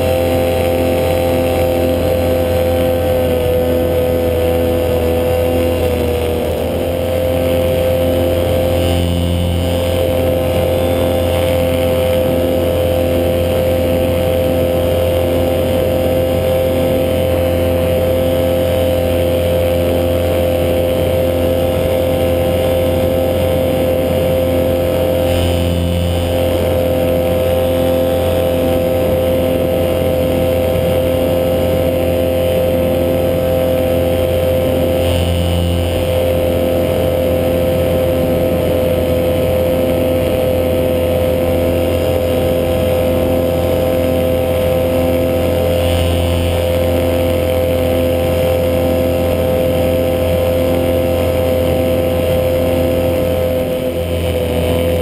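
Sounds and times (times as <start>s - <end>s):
paramotor engine drone: 0.0s - 55.0s.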